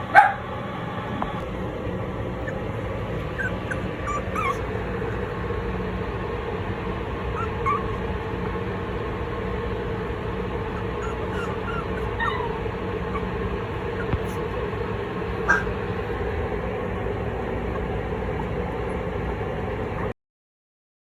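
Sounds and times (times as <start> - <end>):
steady low hum: 0.0 - 20.1
puppies whimpering: 1.4 - 20.2.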